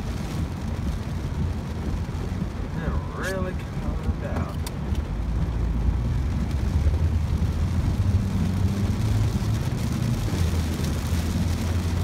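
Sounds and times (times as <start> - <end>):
car engine drone: 0.0 - 12.0
heavy rain on a car: 0.0 - 12.0
tyres on wet road: 0.0 - 12.0.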